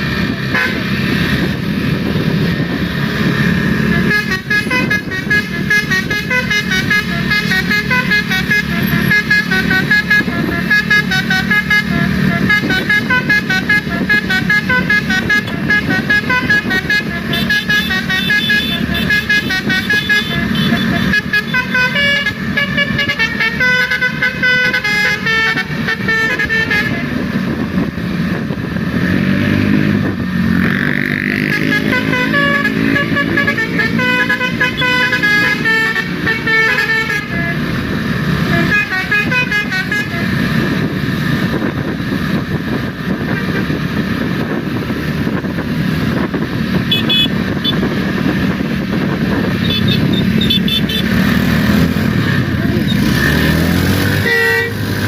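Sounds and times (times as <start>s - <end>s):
engines and traffic: 0.0s - 55.0s
melodic bus horns: 0.0s - 55.0s.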